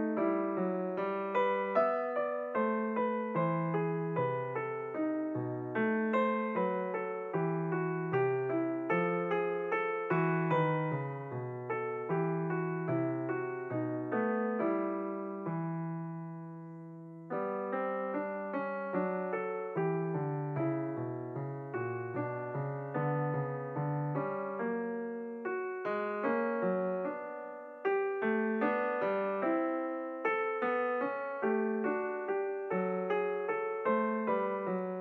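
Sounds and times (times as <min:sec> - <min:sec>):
gentle piano music: 0:00.0 - 0:35.0.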